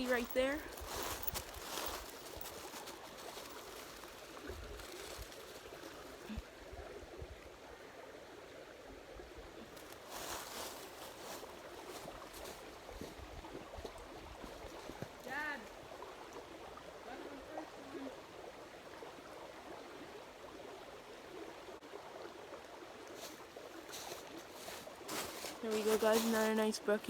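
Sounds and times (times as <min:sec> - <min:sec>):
creek water trickling: 0:00.0 - 0:27.0.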